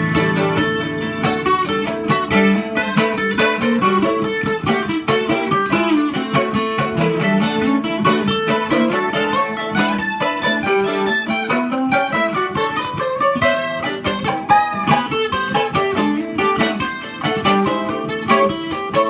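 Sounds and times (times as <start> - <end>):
mandolin picking quick runs: 0.0 - 19.0
twelve-string guitar strumming chords: 0.0 - 19.0.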